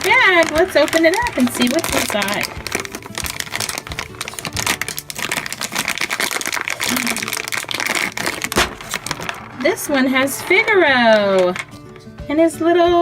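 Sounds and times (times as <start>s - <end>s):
plastic wrapper tearing and crinkling: 0.0s - 12.0s.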